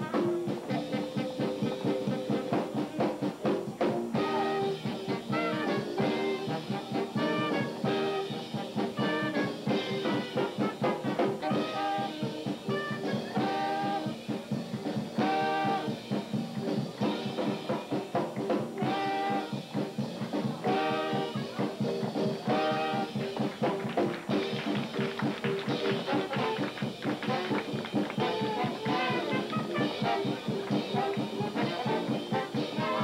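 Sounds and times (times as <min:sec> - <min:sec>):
brass phrases: 0:00.0 - 0:33.0
driving drum beat: 0:00.0 - 0:33.0
swing jazz band: 0:00.0 - 0:33.0.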